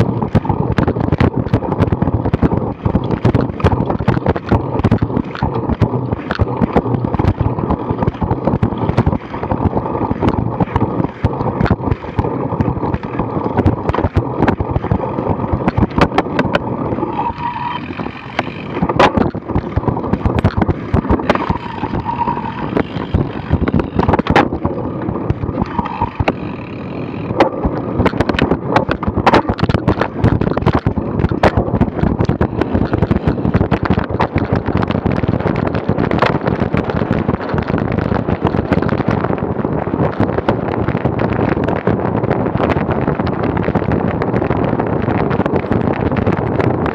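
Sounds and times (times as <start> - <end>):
bike rattling and knocking: 0.0 - 46.9
bike rumbling over grass: 0.0 - 46.9
wind noise: 0.0 - 46.9.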